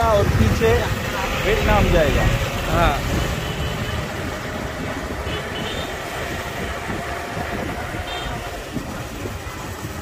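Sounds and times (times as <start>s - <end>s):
motorbike engine: 0.0s - 10.0s
road noise: 0.0s - 10.0s
wind buffeting microphone: 0.0s - 10.0s.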